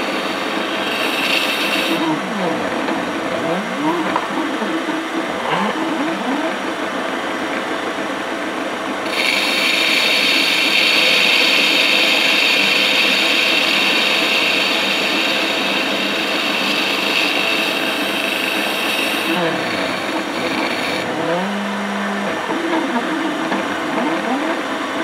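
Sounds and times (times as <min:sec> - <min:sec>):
high-pitched cutting whine: 0:00.0 - 0:08.2, 0:08.8 - 0:25.0
milling machine running: 0:00.0 - 0:25.0.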